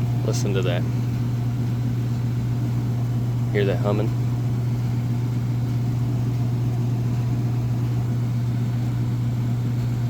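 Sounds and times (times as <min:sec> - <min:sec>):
hvac unit low hum: 0:00.0 - 0:10.0.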